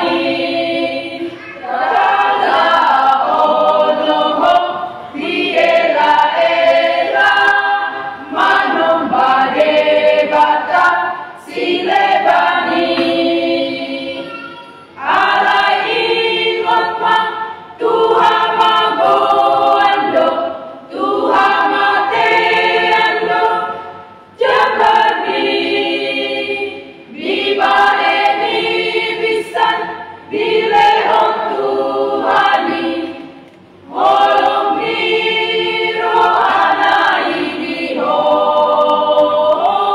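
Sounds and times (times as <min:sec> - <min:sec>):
women's choir singing a hymn: 0:00.0 - 0:39.9.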